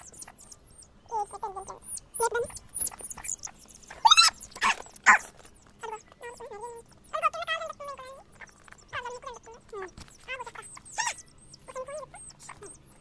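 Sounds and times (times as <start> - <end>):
chicks peeping: 0.0 - 13.0
hen calling: 0.0 - 13.0.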